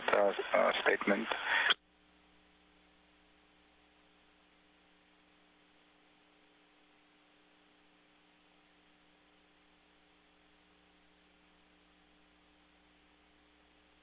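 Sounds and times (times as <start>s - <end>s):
faint steady hum: 0.0s - 14.0s
soft hiss: 0.0s - 14.0s.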